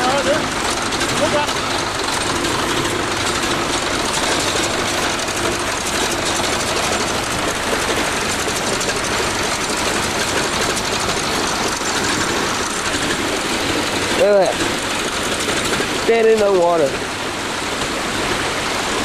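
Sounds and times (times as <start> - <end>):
bulldozer engine clattering: 0.0 - 19.0.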